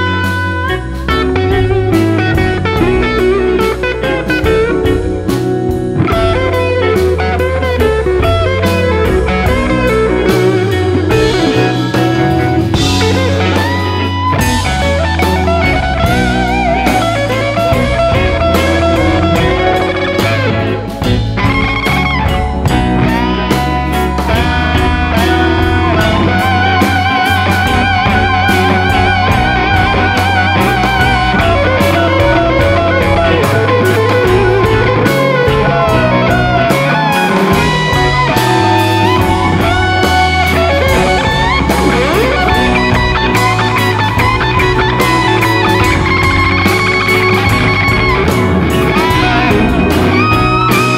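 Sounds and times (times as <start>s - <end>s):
blues-rock electric guitar music: 0.0s - 50.9s.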